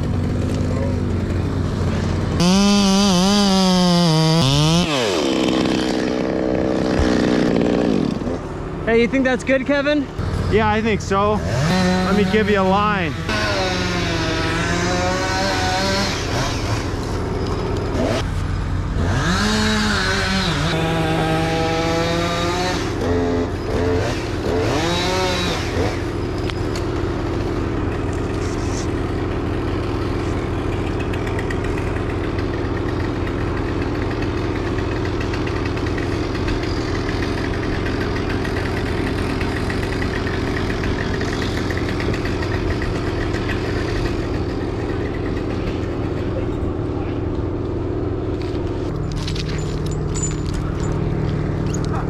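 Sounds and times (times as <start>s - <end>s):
engine revving and droning: 0.0s - 52.0s.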